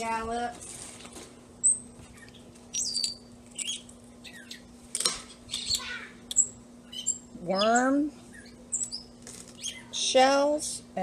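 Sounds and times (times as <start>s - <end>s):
small birds chirping: 1.6s - 10.8s.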